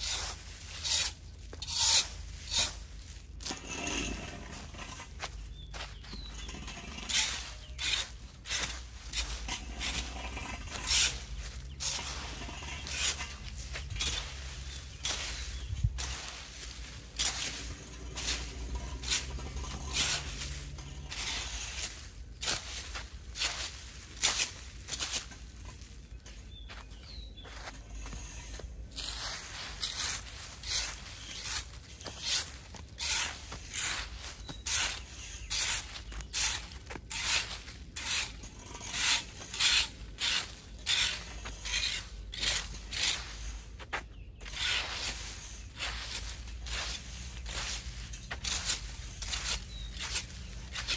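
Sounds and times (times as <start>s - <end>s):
rake scraping dry leaves on concrete: 0.0s - 50.9s.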